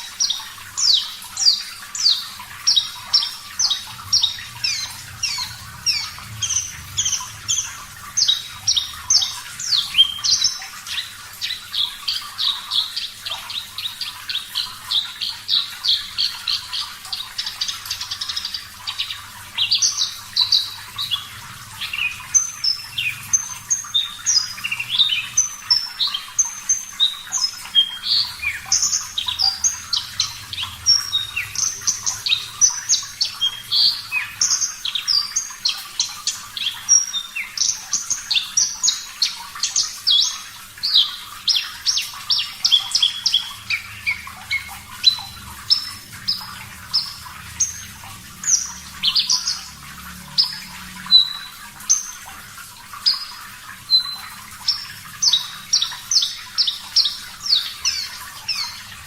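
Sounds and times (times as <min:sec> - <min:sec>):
bird singing rapid chirps: 0:00.0 - 0:59.0.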